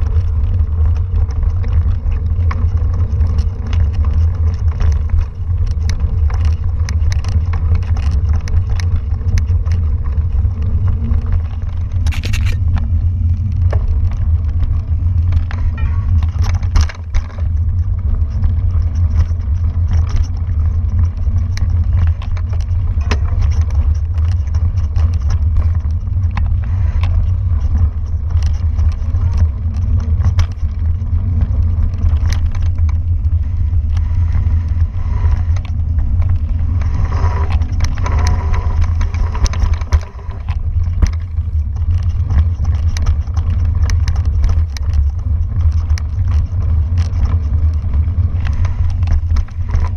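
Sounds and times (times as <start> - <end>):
bike clicks and rattles: 0.0 - 49.9
wind buffeting microphone: 0.0 - 49.9.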